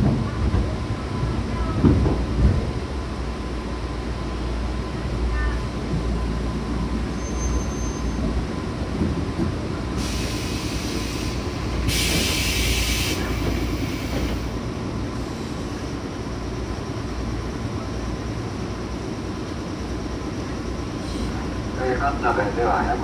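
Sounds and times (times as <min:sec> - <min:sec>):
train wheels and motors rumbling: 0:00.0 - 0:23.0.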